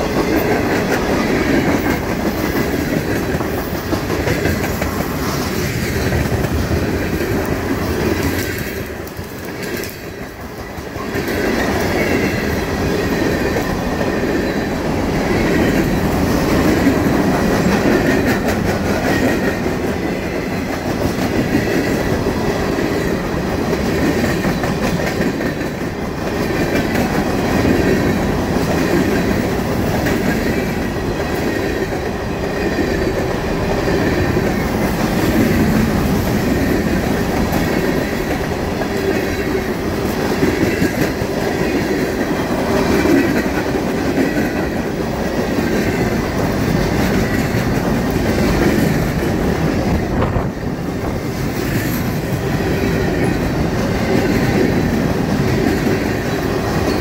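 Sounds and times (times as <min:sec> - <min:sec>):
clickety-clack over rail joints: 0:00.0 - 0:57.0
freight train wheels rumbling: 0:00.0 - 0:57.0.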